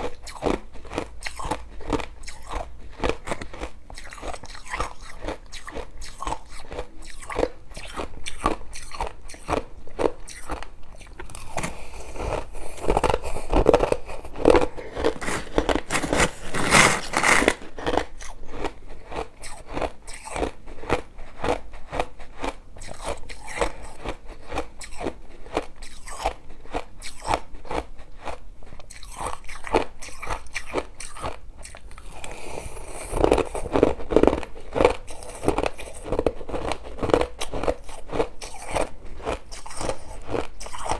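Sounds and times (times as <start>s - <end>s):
chewing crushed ice: 0.0s - 40.9s.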